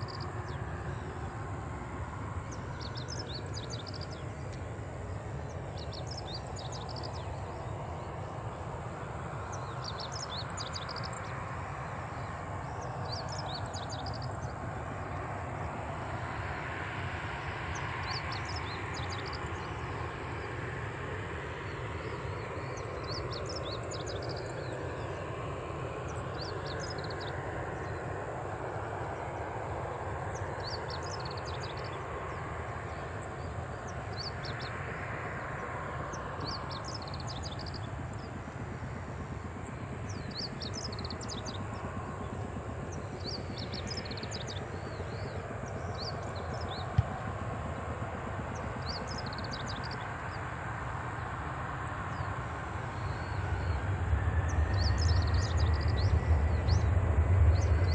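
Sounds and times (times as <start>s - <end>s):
distant jet engines rumbling: 0.0s - 57.9s.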